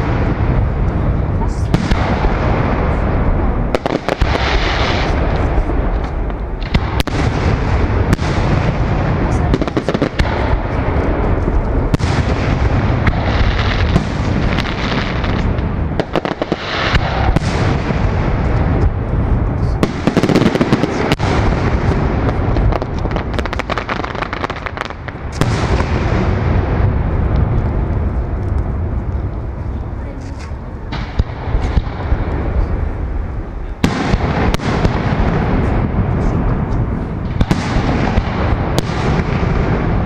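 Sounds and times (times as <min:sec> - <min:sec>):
fireworks booming and banging: 0:00.0 - 0:40.0.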